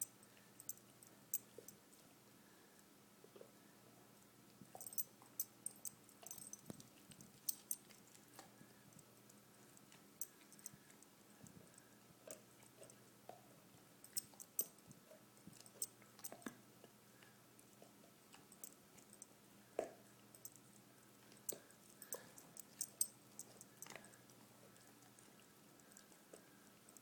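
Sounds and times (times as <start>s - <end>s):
dog chewing on a bone: 4.7s - 27.0s.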